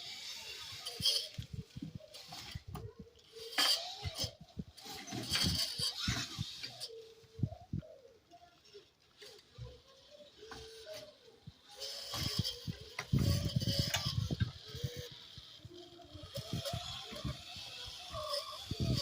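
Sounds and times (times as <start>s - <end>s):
toy tractor motor whining: 0.0s - 19.0s.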